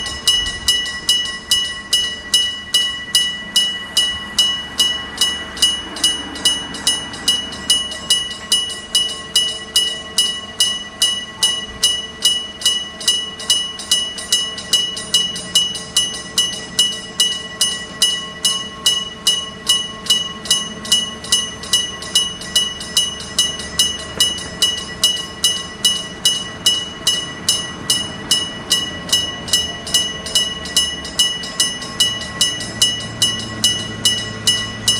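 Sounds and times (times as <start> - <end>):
electric bell ringing: 0.0 - 34.9.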